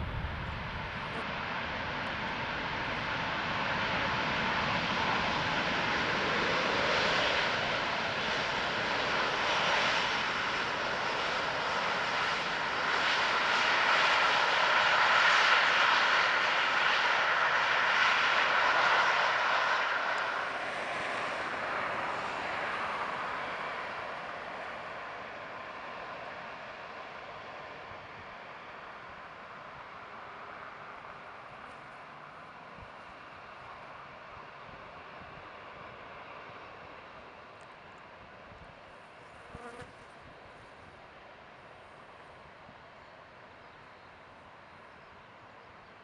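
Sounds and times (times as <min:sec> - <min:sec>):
jet engine roar: 0:00.0 - 0:39.5.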